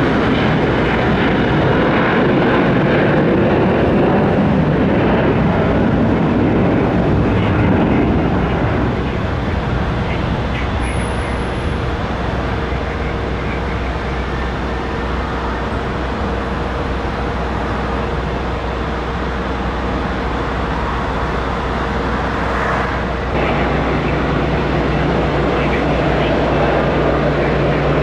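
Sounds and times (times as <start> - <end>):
engine noise: 0.0 - 28.0
jet engine roar with whine: 0.0 - 28.0.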